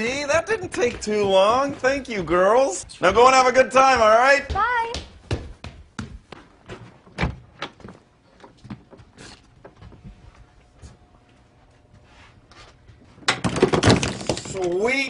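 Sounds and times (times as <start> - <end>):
footsteps and light knocks: 0.0 - 13.3.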